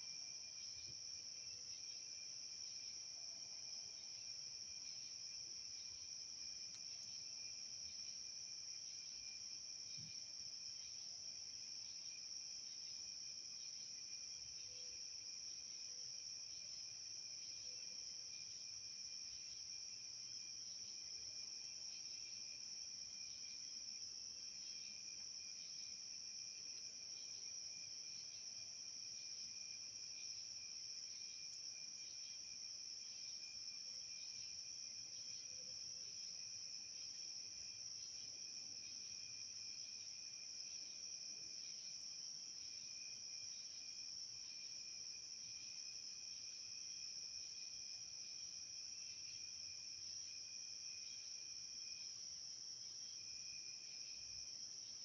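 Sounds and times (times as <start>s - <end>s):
lower pulsing insect trill: 0.0s - 55.0s.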